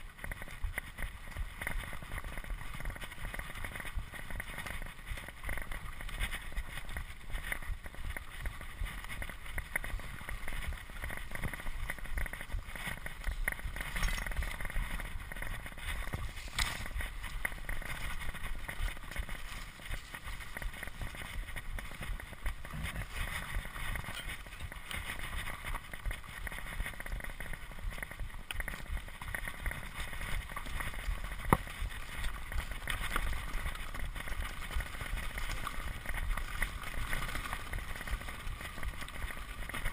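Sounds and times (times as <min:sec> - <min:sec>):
bicycle chain and frame rattling: 0:00.0 - 0:39.9
bicycle tyres on dirt trail: 0:00.0 - 0:39.9
wind rumbling on microphone: 0:00.0 - 0:39.9.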